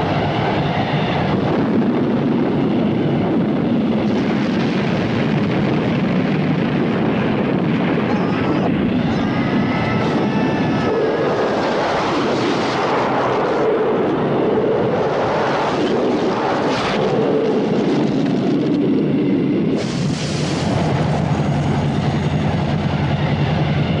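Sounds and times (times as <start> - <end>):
loud steady rumble: 0.0 - 24.0.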